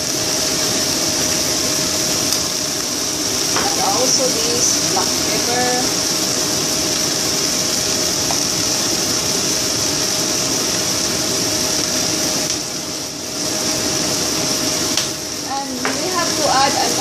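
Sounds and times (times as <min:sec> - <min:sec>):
kitchen exhaust fan whirring: 0:00.0 - 0:17.0
vegetables sizzling in oil: 0:00.0 - 0:17.0.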